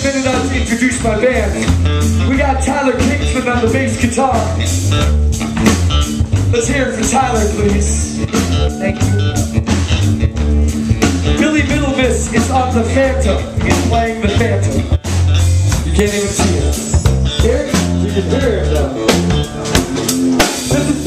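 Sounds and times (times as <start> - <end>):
drum kit: 0.0 - 21.0
electric bass: 0.0 - 21.0
electric guitar: 0.0 - 21.0.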